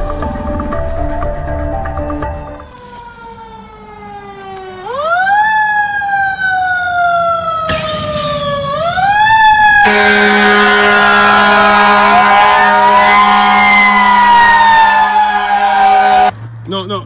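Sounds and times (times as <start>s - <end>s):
fire engine siren wailing: 2.5s - 16.3s.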